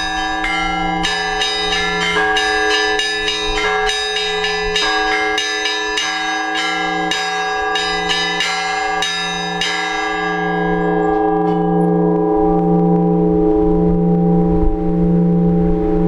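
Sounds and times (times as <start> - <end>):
deep hum of large bell: 0.0 - 16.0
small church bells ringing: 0.0 - 16.0.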